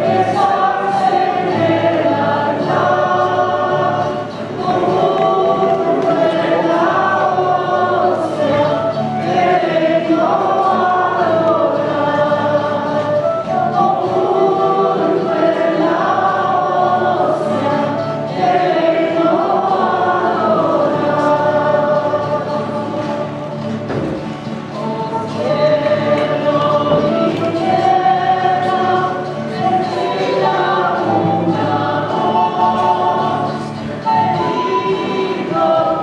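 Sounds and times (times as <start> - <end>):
church choir singing: 0.0 - 36.0
low steady accompaniment: 0.0 - 36.0.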